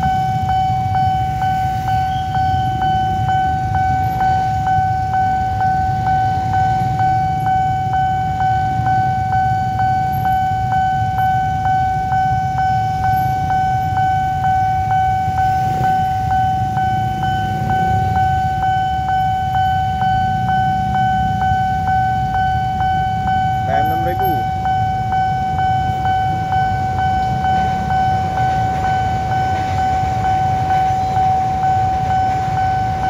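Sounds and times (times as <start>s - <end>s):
idling engines rumbling: 0.0s - 33.0s
level crossing warning bell: 0.0s - 33.0s.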